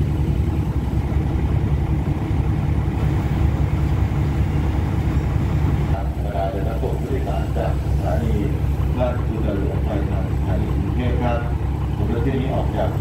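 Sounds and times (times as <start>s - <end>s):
train diesel engine rumble: 0.0s - 13.0s.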